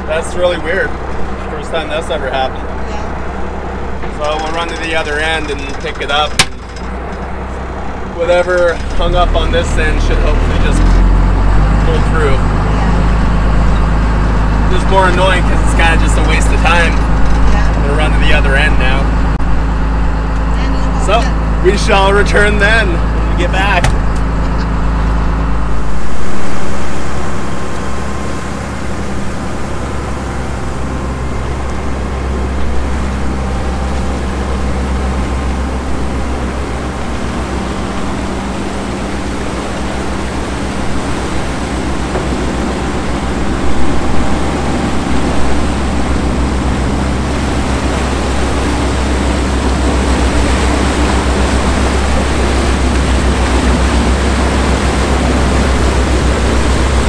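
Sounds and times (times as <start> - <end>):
boat engine droning: 0.0 - 57.0
water rushing from wake: 0.0 - 57.0
wind: 0.0 - 57.0.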